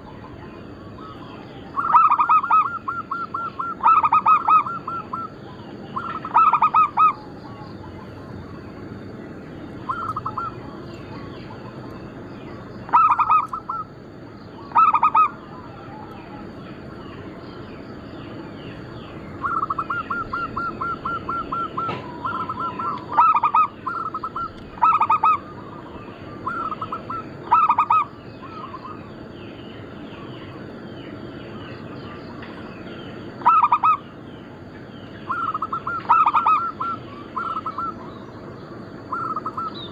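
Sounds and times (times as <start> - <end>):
dove cooing: 0.0 - 9.0, 9.8 - 17.3, 18.9 - 29.2, 33.3 - 34.1, 35.2 - 39.9
small birds chirping: 0.0 - 39.9.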